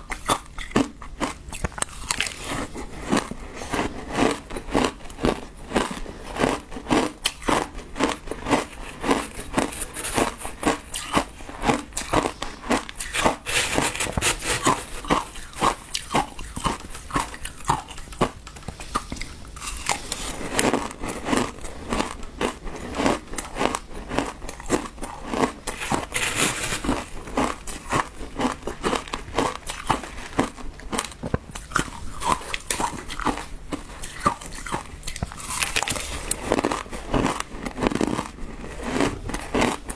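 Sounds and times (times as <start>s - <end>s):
chewing crunchy shaved ice: 0.0s - 39.9s.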